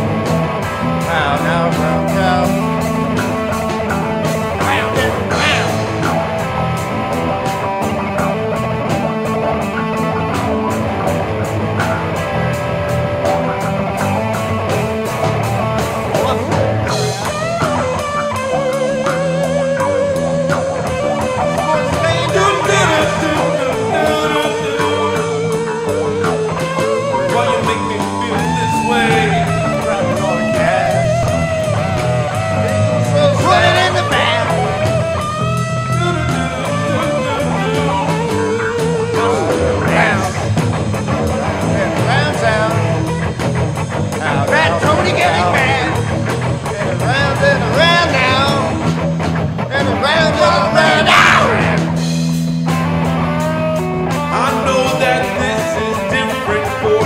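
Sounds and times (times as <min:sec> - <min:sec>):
rock band playing: 0:00.0 - 0:57.0
wavering lead guitar line: 0:00.0 - 0:57.0.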